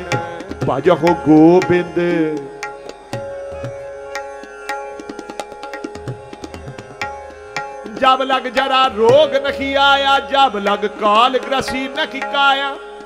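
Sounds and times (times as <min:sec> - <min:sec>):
tabla rhythm: 0:00.0 - 0:13.0.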